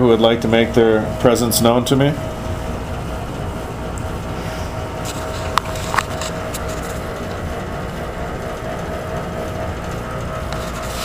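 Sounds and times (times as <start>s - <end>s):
boiler-room machinery rumbling: 0.0s - 11.0s.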